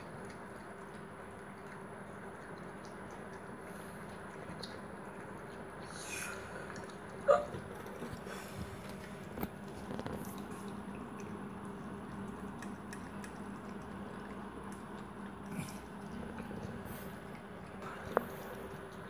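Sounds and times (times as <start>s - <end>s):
puppy chewing and lapping food: 0.0s - 19.0s.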